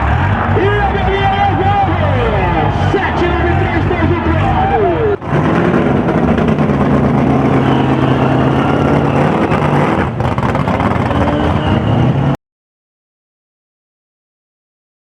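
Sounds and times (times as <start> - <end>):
car engine revving hard: 0.0 - 12.4.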